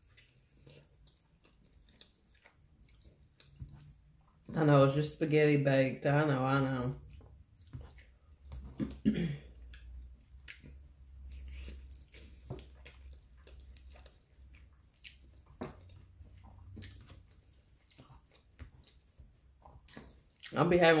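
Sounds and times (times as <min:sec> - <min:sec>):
person chewing: 0:00.0 - 0:04.5, 0:07.1 - 0:20.6.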